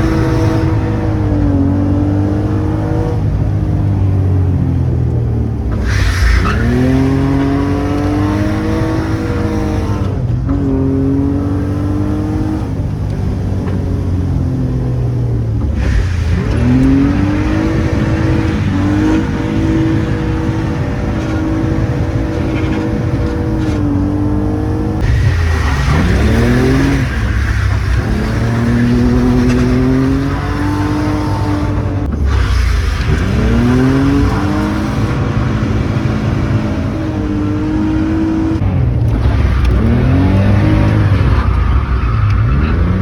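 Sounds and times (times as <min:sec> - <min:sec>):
car engine revving hard: 0:00.0 - 0:43.0.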